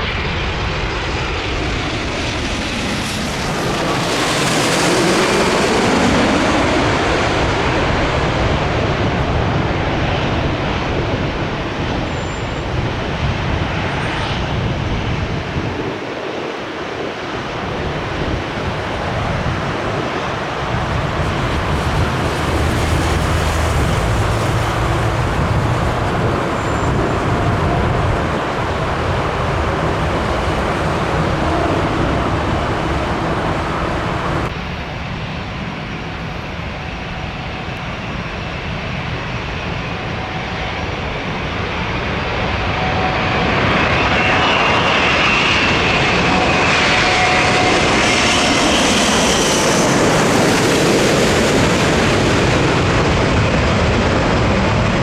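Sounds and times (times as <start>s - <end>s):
jet engine whine: 0.0s - 55.0s
jet engines rumbling: 0.0s - 55.0s.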